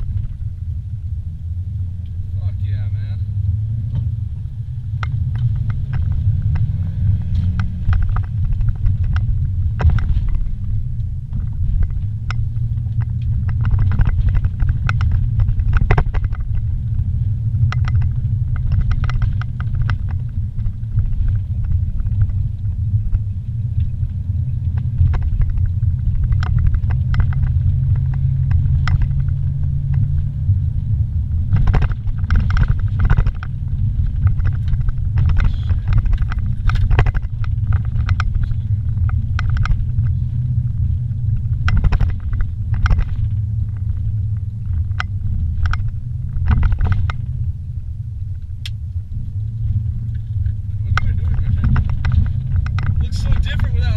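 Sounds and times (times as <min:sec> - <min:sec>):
engine and tyre rumble: 0:00.0 - 0:53.9
small clicks and knocks: 0:05.0 - 0:17.0, 0:17.6 - 0:30.3, 0:31.5 - 0:47.4, 0:49.6 - 0:53.9.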